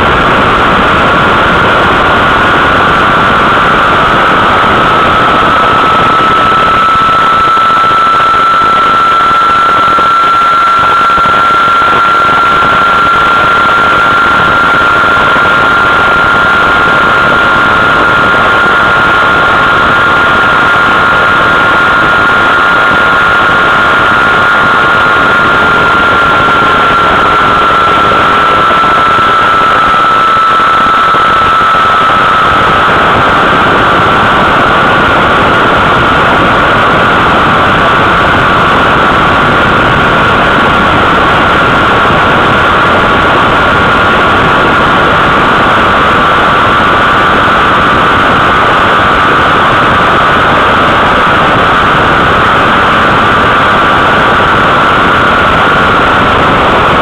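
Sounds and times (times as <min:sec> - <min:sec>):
rushing wind noise: 0:00.0 - 0:57.0.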